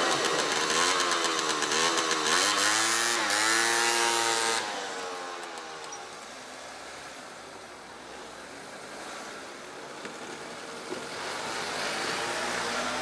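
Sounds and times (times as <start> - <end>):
van engine and tyre noise: 0.0 - 13.0.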